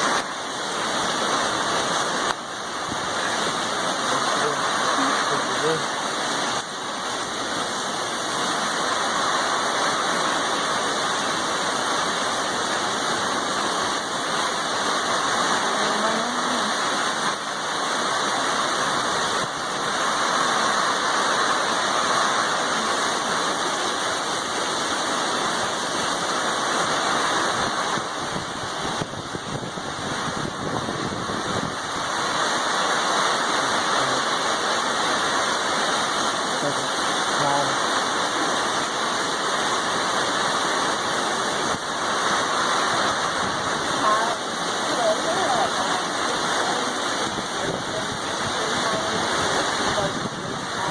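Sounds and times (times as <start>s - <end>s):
heavy rain and wind: 0.0s - 50.9s.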